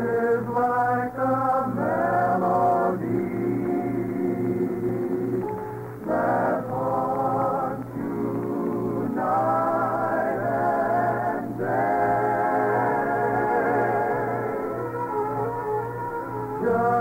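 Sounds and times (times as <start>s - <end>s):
choir singing with accompaniment: 0.0s - 17.0s.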